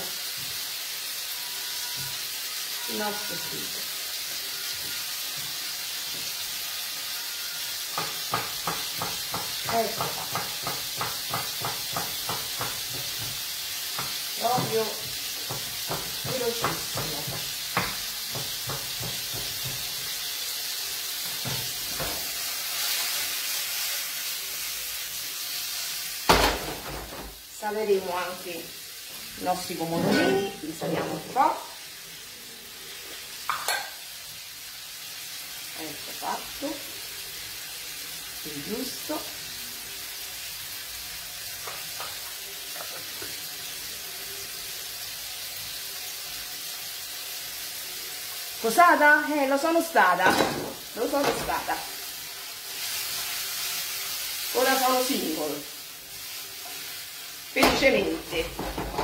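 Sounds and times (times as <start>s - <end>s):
tomatoes sizzling in a pan: 0.0s - 59.0s.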